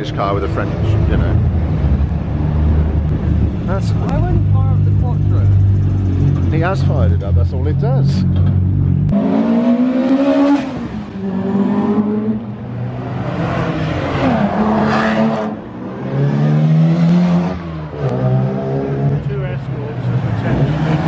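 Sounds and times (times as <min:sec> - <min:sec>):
rally car engines revving: 0:00.0 - 0:21.0.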